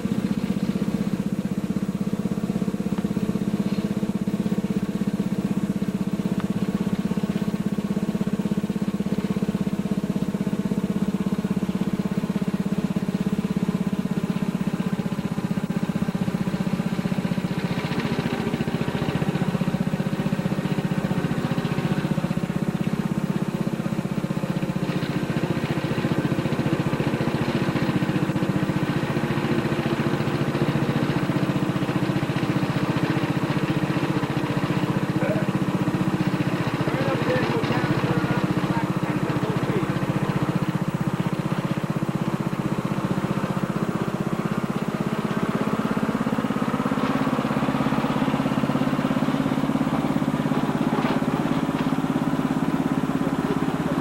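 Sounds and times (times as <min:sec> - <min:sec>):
riding lawnmower engine running: 0:00.0 - 0:54.0.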